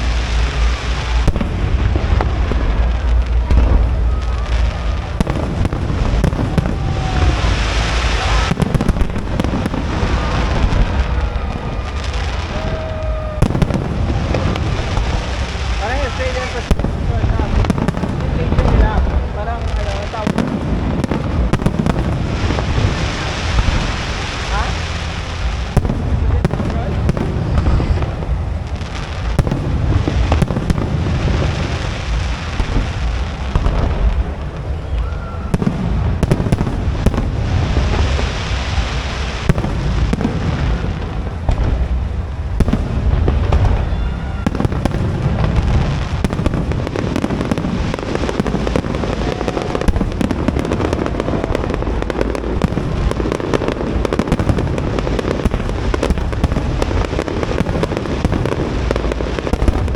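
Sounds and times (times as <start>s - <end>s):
firework shell bursts and booms: 0.0s - 34.8s, 35.4s - 59.9s
firework crackling: 0.0s - 59.9s.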